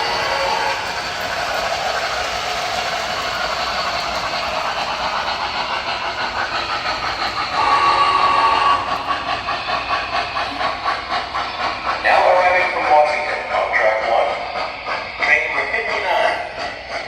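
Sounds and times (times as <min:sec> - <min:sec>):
locomotive chuffing: 0:00.0 - 0:17.0
steady whistle tone: 0:00.0 - 0:17.0
steam hiss: 0:00.0 - 0:17.0.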